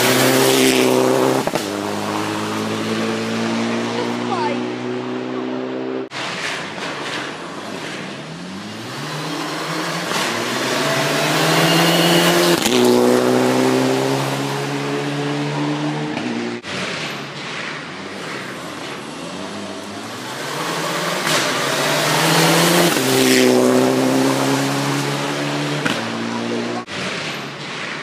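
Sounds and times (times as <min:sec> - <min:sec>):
rally car engine passing by: 0:00.0 - 0:27.4.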